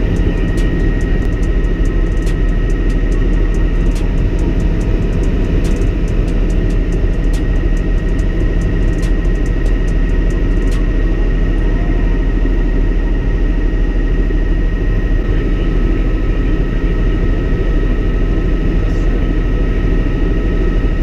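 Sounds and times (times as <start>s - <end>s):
helicopter rotor and turbine drone: 0.0s - 21.0s
high-pitched whines: 0.0s - 21.0s.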